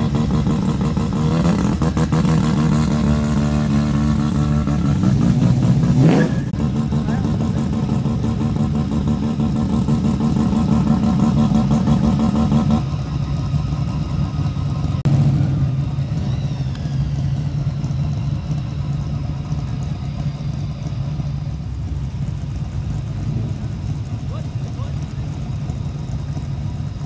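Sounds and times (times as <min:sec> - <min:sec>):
car engines running: 0:00.0 - 0:27.0.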